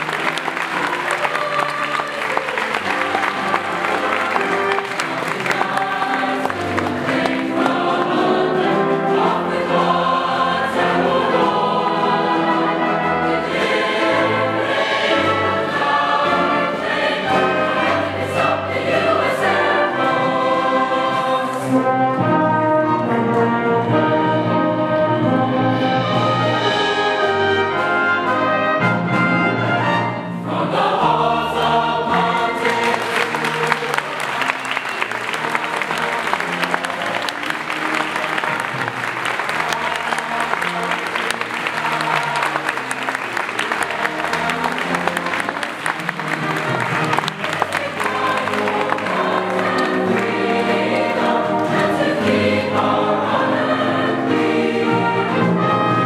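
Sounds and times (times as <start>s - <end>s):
mixed choir singing in harmony: 0.0s - 28.8s, 29.7s - 56.0s.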